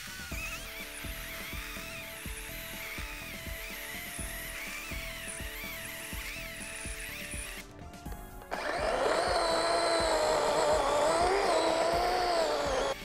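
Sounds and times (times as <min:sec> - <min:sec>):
battery chainsaw cutting log: 0:00.0 - 0:07.7, 0:08.4 - 0:13.0
background music with steady beat: 0:00.0 - 0:13.0.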